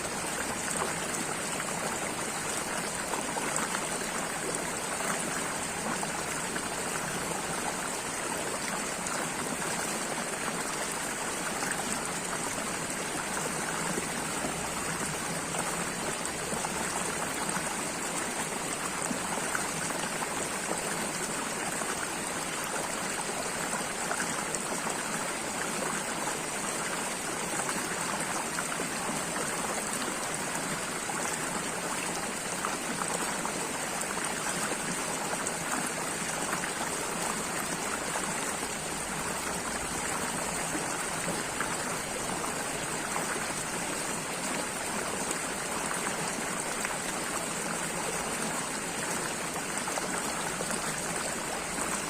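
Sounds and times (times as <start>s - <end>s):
stream water running: 0.0s - 52.0s.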